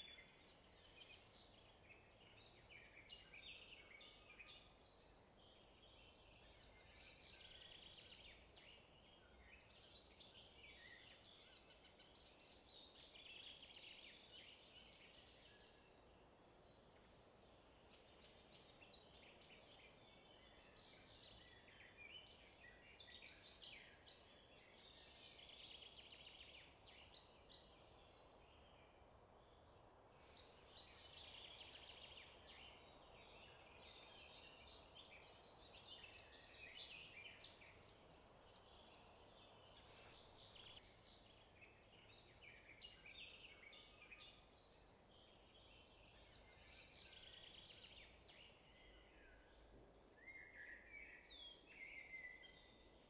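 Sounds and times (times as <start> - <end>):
faint bird chirping: 0.0 - 53.0.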